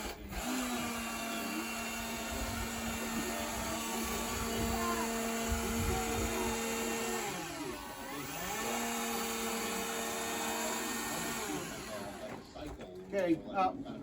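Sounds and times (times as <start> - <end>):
power saw whining: 0.0 - 12.6.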